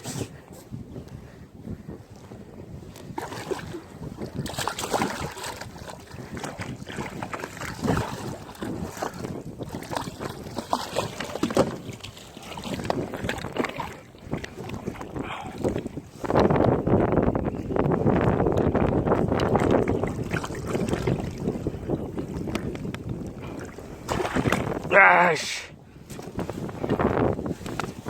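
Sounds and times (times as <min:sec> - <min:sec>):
wind buffeting microphone: 0:00.0 - 0:28.0
water slapping against boat: 0:02.1 - 0:25.4, 0:26.0 - 0:28.0.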